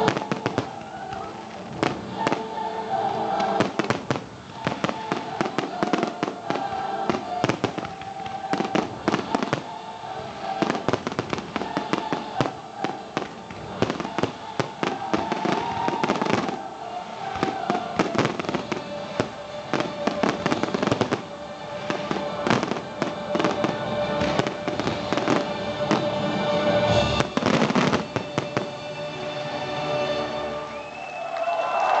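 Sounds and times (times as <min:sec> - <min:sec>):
fireworks bangs and crackles: 0:00.0 - 0:29.0
music playing: 0:00.0 - 0:32.0.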